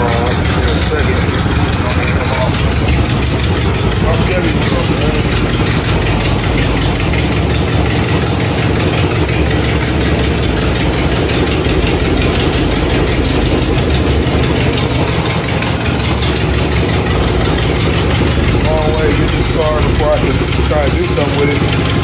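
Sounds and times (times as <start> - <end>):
car engine idling: 0.0 - 22.0
exhaust leak: 0.0 - 22.0.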